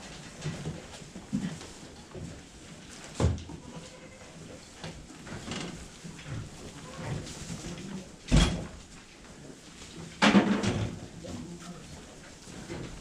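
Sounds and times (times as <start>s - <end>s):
quiet barn background noise: 0.0s - 13.0s.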